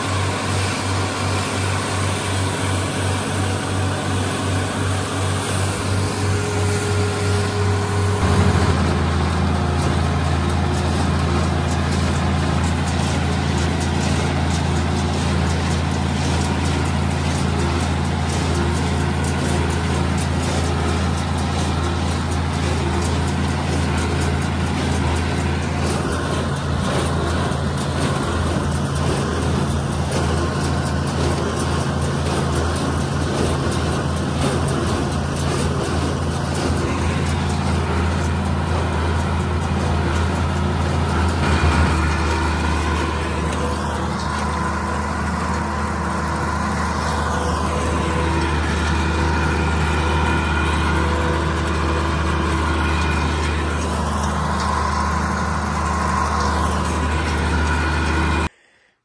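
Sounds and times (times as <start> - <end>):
tractor engine under load: 0.0 - 58.6.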